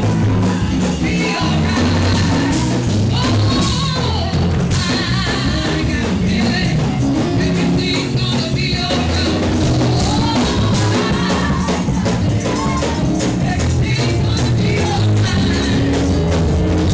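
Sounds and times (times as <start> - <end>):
person singing: 0.0 - 16.9
upbeat music with drum kit: 0.0 - 16.9.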